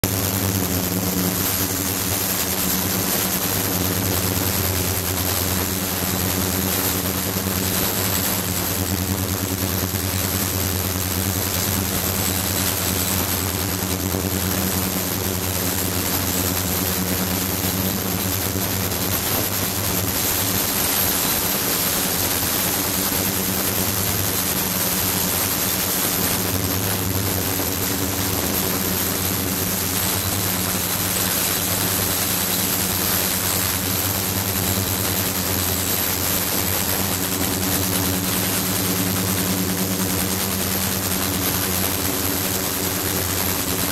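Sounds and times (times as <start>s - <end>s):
ultrasonic cleaner humming: 0.0s - 43.9s.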